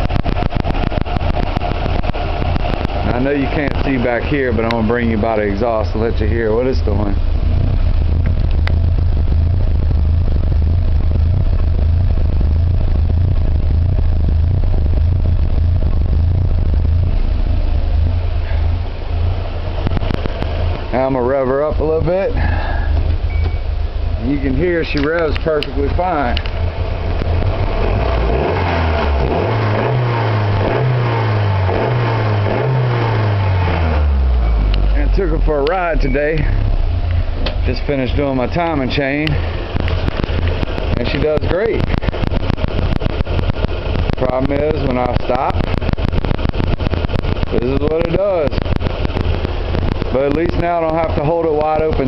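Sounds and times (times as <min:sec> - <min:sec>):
engine exhaust idling roughly: 0:00.0 - 0:52.0.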